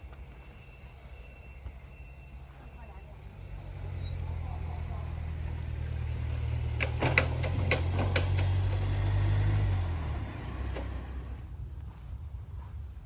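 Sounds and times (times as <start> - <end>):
low engine hum: 1.6 - 13.0.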